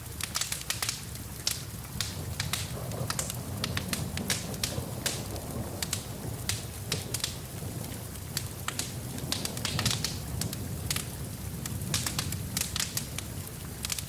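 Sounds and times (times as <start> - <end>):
rain: 0.0 - 14.0
wood fire crackling and popping: 0.0 - 14.0.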